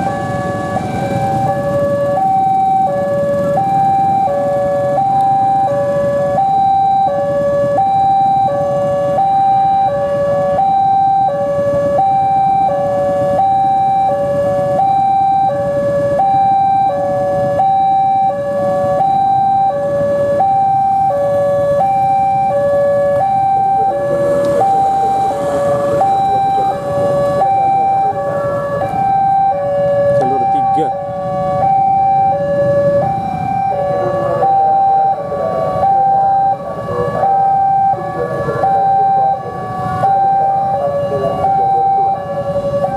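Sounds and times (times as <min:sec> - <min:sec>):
level-crossing two-tone alarm: 0:00.0 - 0:42.9.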